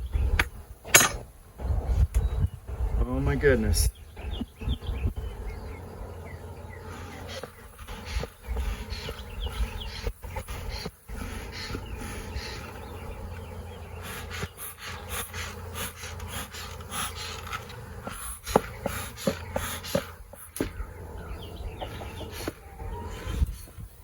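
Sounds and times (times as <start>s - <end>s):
bees humming: 3.2s - 24.0s.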